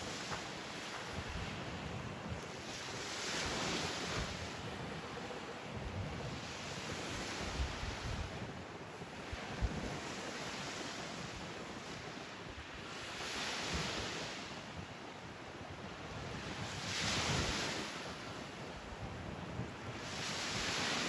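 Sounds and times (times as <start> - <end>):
waves washing onto beach: 0.0 - 21.0
wind rumbling on microphone: 0.0 - 21.0.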